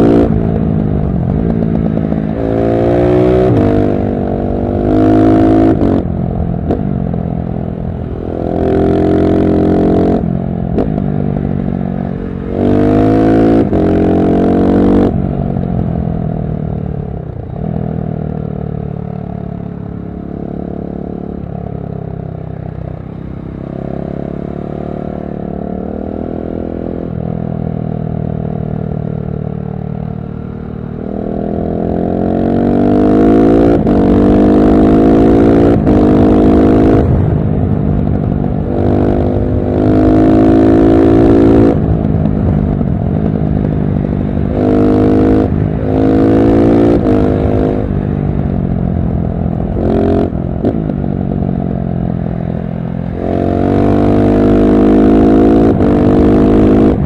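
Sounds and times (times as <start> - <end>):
motorcycle engine revving: 0.0 - 16.0, 23.0 - 57.0.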